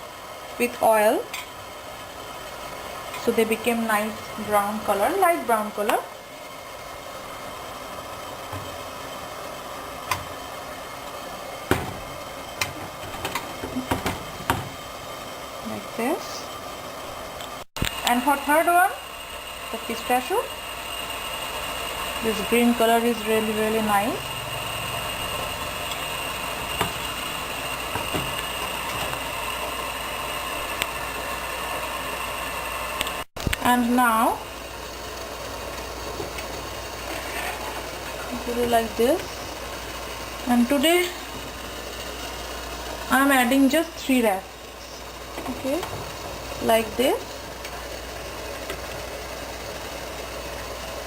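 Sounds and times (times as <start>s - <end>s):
steady hiss: 0.0s - 51.0s.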